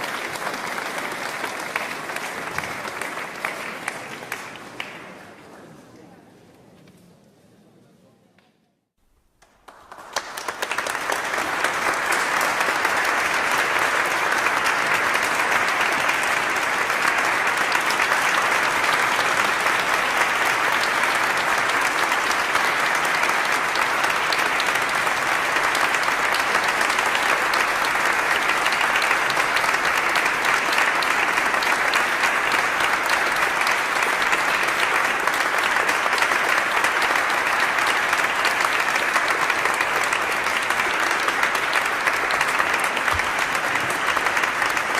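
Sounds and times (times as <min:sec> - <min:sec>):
crowd applauding: 0:00.0 - 0:05.4, 0:09.2 - 0:44.9.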